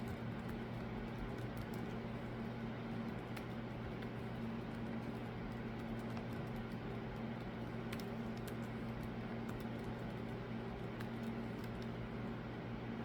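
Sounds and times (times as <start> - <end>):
birds pecking at seed: 0.0 - 12.2
steady low hum: 0.0 - 13.0.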